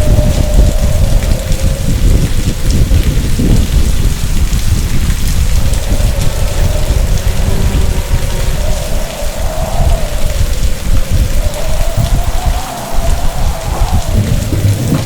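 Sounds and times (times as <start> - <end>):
deep thunder rumble: 0.0 - 15.0
heavy rain: 0.0 - 15.0.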